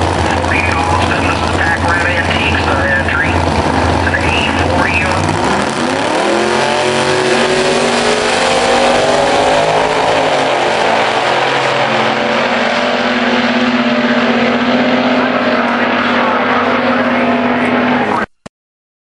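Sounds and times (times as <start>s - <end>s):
drag car engines accelerating: 0.0s - 18.4s.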